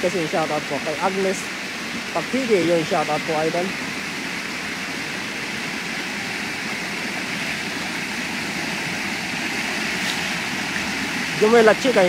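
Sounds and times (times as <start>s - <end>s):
water pouring over spillway: 0.0s - 12.0s.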